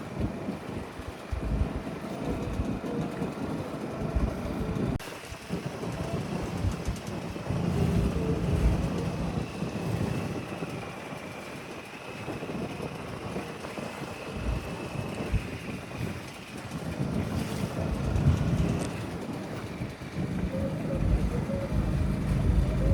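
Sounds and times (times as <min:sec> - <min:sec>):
motorboat engine running: 0:00.0 - 0:22.9
wind buffeting microphone: 0:00.0 - 0:22.9.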